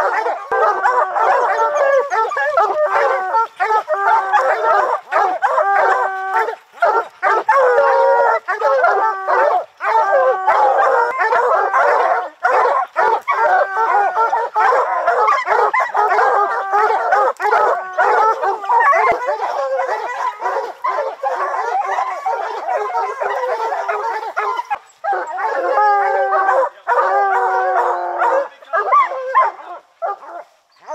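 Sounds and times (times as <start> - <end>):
dogs barking: 0.0 - 30.9
hounds baying: 0.0 - 30.9.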